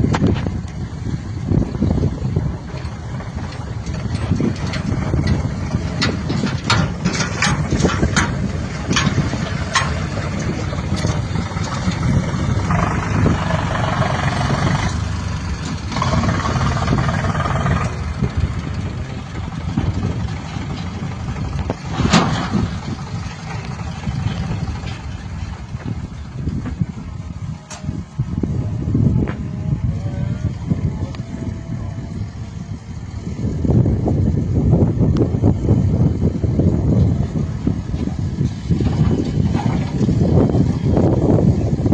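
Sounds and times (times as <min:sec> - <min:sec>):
backhoe diesel engine running: 0:00.0 - 0:41.9.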